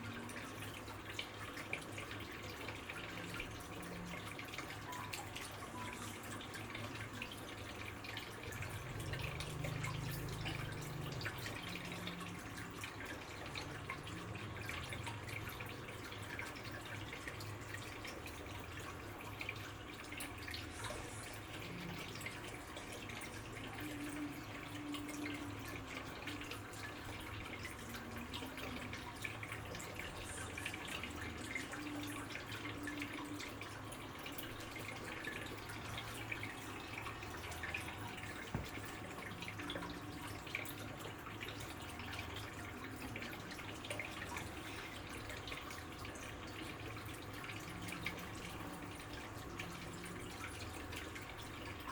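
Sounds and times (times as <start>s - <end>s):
water trickling and dripping: 0.0s - 51.9s.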